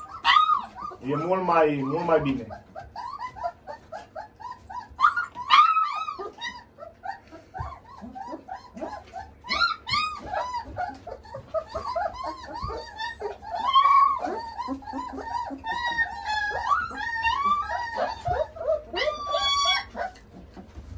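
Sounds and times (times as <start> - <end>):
puppies whining and yelping: 0.0 - 20.9.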